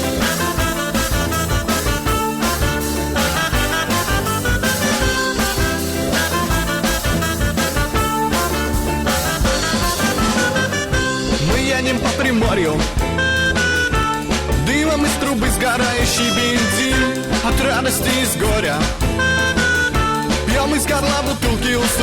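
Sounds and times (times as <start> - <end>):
upbeat swing band music: 0.0 - 22.0.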